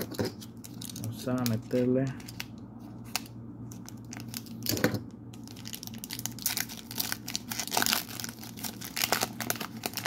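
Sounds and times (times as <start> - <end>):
foil wrapper crinkling and tearing: 0.5 - 10.0.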